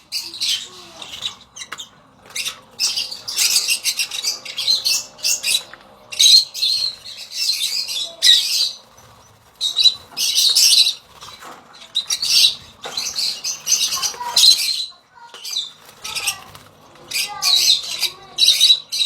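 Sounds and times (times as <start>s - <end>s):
lovebirds chattering calls: 0.0s - 19.0s.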